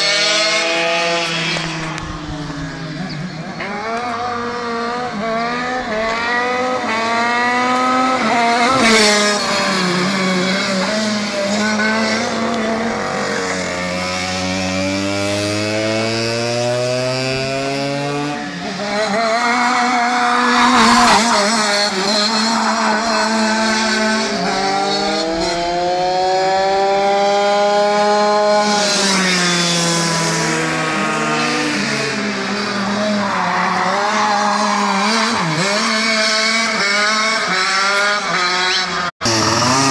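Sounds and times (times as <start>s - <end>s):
go-kart engines revving: 0.0s - 39.9s.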